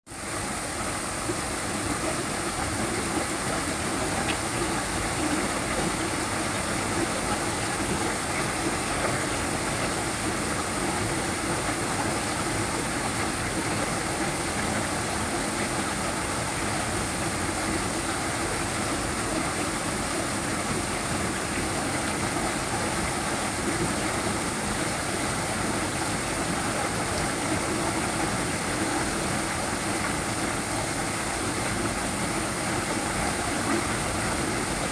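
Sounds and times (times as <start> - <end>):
small waterfall splashing: 0.1 - 34.9.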